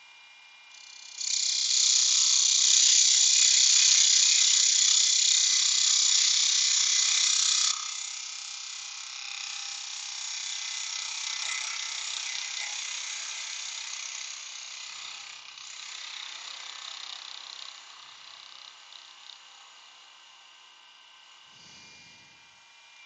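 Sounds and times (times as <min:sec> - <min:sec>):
wood lathe rasping hiss: 0:00.8 - 0:23.0.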